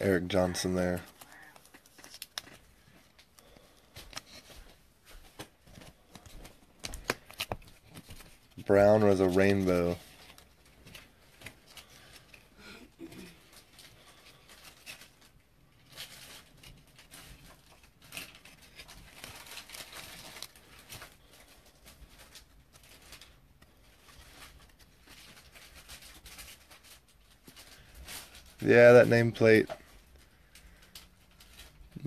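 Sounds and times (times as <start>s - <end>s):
cards rustling and scraping: 0.0s - 32.0s.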